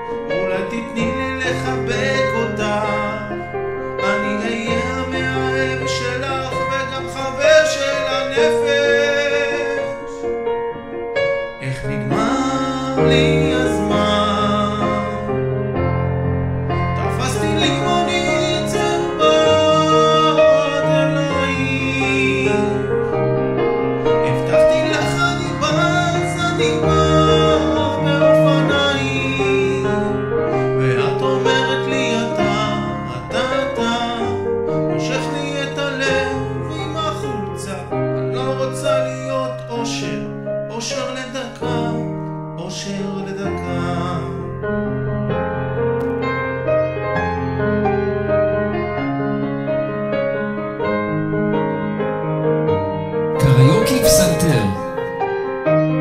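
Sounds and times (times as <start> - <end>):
piano melody: 0.0 - 56.0.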